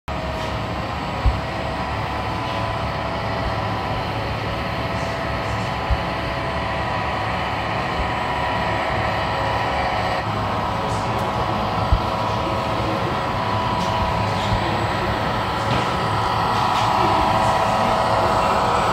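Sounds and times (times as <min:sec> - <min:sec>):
model tractor mechanical hum: 0:00.1 - 0:18.9.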